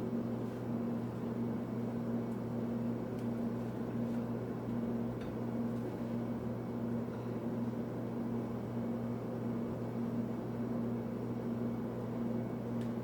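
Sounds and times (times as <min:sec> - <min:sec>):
fan motor humming: 0:00.0 - 0:13.0.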